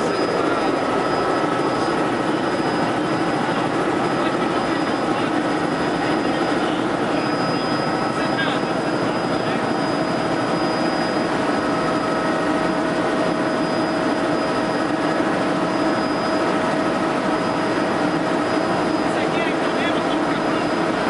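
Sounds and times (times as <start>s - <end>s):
helicopter rotor drone: 0.0s - 21.0s
high turbine whine: 0.0s - 21.0s.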